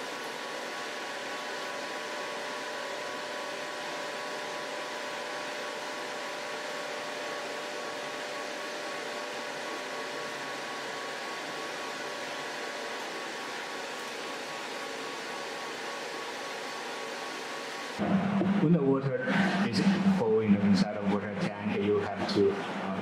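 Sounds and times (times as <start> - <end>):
water pump whirring: 0.0 - 23.0.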